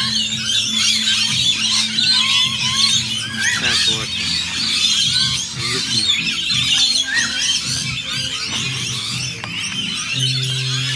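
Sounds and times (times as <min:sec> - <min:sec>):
lorikeets chattering and screeching: 0:00.0 - 0:10.9.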